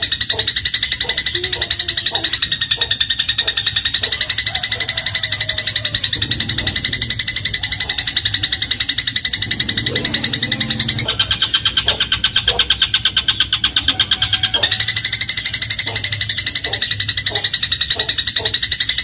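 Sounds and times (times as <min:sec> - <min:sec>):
sparrow rattling trill: 0:00.0 - 0:19.0.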